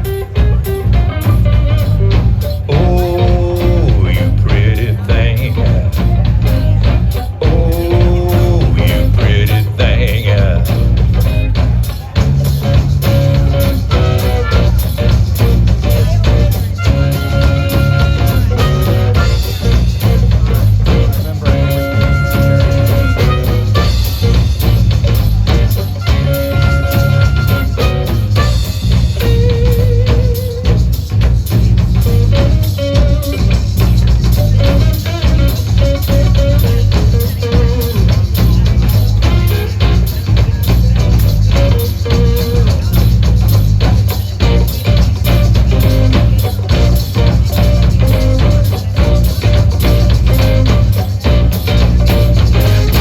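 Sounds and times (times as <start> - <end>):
blues band playing: 0.0 - 53.0
drum kit beat: 0.0 - 53.0
held lead instrument notes: 0.0 - 53.0.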